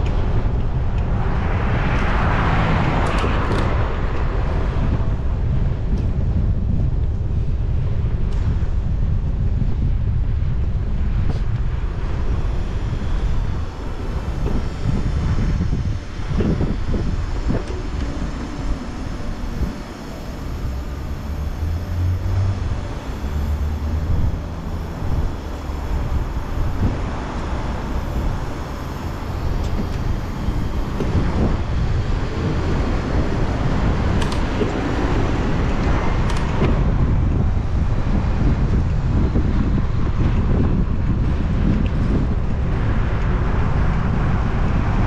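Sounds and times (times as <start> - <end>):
road traffic passing: 0.0 - 8.8, 9.4 - 45.0
wind rumbling on microphone: 0.0 - 45.0.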